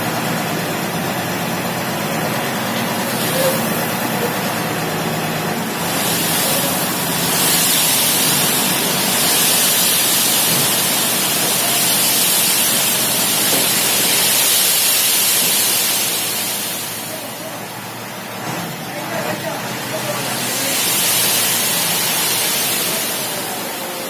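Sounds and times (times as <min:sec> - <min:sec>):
sand pouring from lorry: 0:00.2 - 0:24.0.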